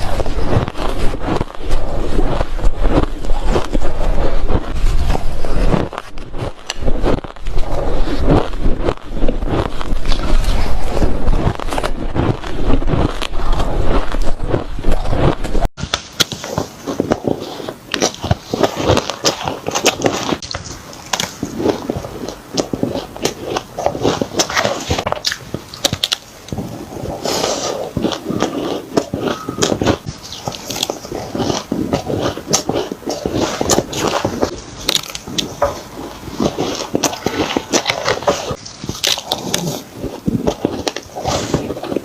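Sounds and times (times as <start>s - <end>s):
chewing crunchy shaved ice: 0.0s - 42.0s.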